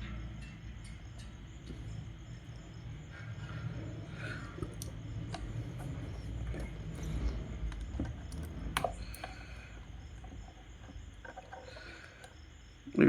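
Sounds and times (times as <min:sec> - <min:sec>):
low handling rumble: 0:00.0 - 0:12.8.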